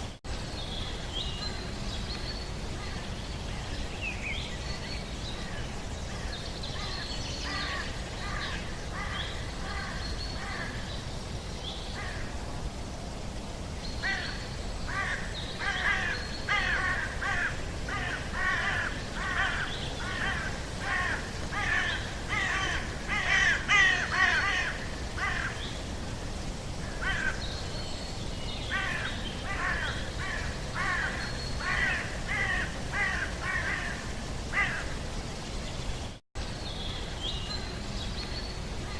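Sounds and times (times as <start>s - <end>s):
steady background noise: 0.0s - 38.9s.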